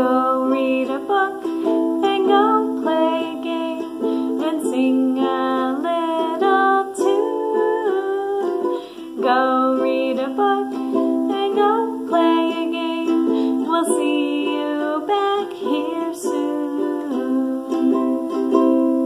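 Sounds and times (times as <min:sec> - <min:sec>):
ukulele strumming: 0:00.0 - 0:19.0
woman singing: 0:00.0 - 0:19.0.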